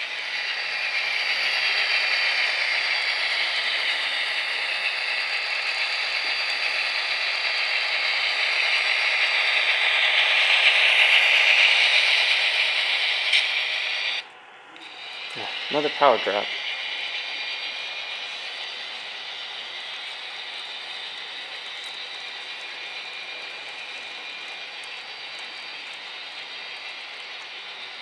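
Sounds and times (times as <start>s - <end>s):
model train rattling on track: 0.0s - 28.0s.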